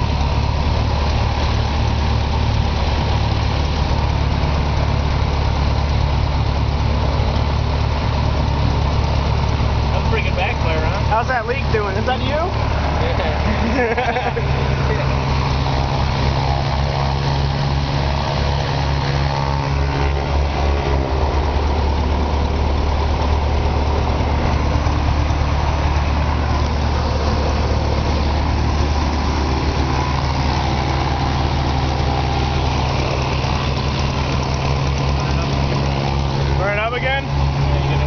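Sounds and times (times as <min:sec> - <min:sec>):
light aircraft engine and propeller: 0:00.0 - 0:38.0.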